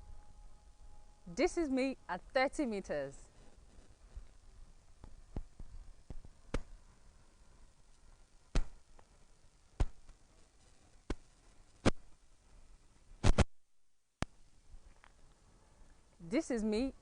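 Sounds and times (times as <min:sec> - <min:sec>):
low microphone hiss: 0:00.0 - 0:17.0.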